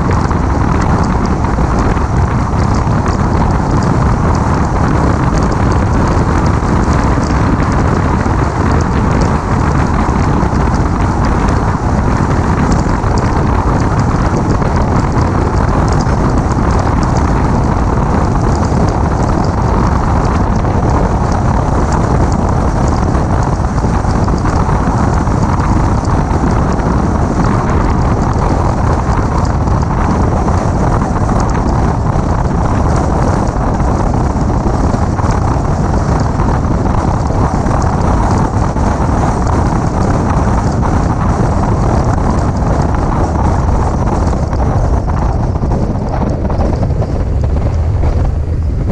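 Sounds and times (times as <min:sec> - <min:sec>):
tyre and road noise: 0:00.0 - 0:48.9
wind rushing over microphone: 0:00.0 - 0:48.9.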